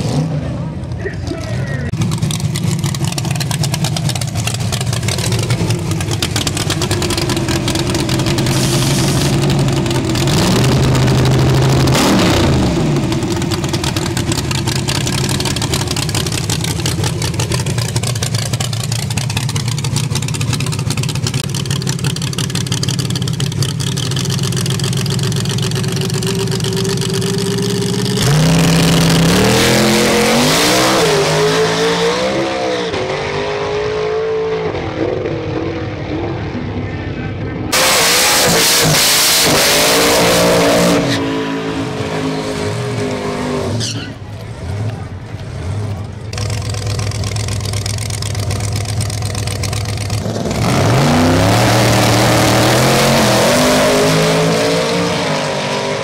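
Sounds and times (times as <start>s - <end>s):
pickup engine revving: 1.3s - 36.9s, 37.7s - 56.0s.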